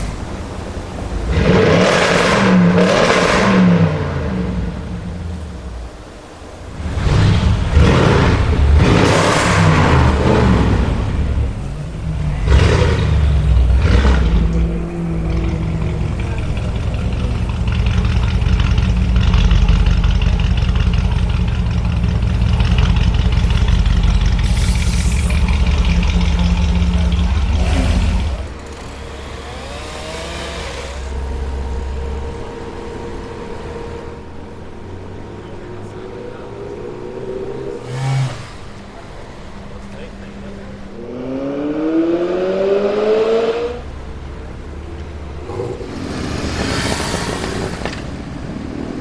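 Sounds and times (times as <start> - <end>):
car engine revving: 0.0 - 49.0
exhaust crackles: 0.0 - 49.0.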